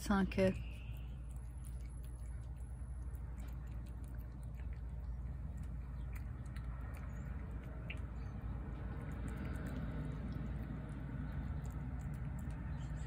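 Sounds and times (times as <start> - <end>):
low background rumble: 0.0 - 13.0
cat crunching dry food: 0.6 - 13.0.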